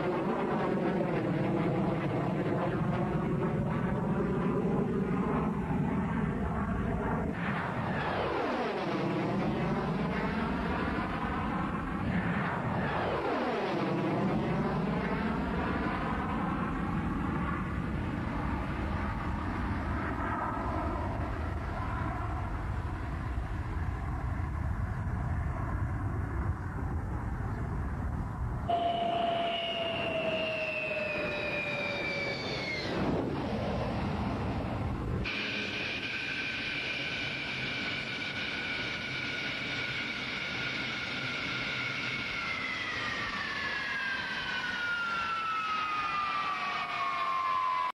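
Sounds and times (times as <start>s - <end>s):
distant jet rumble: 0.0s - 47.9s
jet engine whine falling in pitch: 0.0s - 47.9s.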